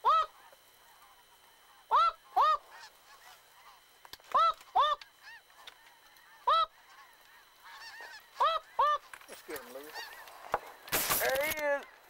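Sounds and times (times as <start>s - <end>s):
goose honking: 0.0s - 10.5s.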